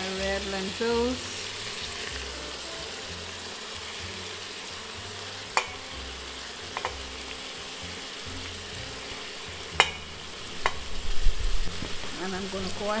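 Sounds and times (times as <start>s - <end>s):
bones sizzling in a pot: 0.0s - 13.0s.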